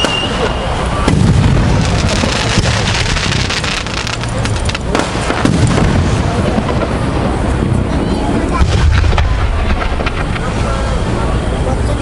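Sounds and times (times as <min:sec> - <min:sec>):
fireworks crackling pops: 0:00.0 - 0:11.2
fireworks booms: 0:00.0 - 0:11.4.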